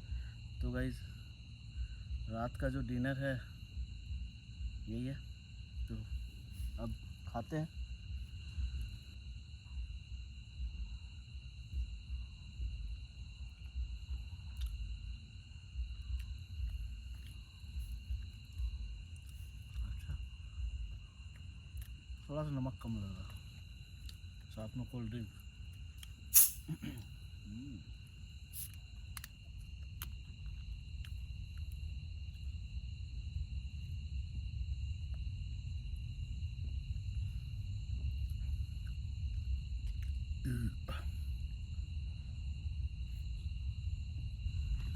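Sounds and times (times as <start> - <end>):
crickets trilling: 0.0 - 44.9
low rumble on microphone: 0.0 - 44.9
night insects droning: 0.0 - 44.9.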